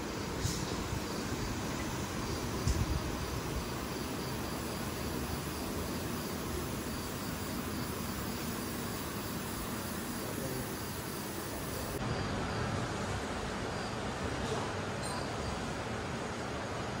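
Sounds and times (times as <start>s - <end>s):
crickets chirping: 0.0s - 14.2s
steady hiss: 0.0s - 14.6s.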